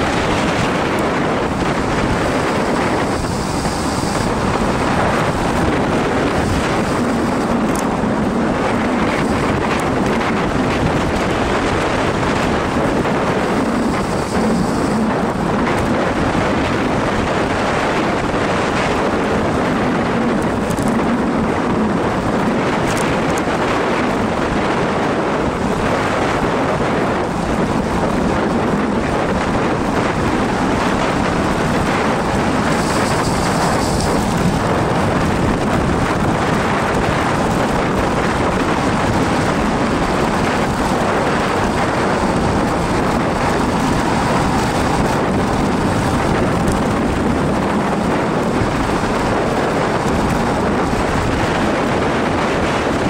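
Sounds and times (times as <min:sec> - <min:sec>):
wind rushing over microphone: 0:00.0 - 0:53.0.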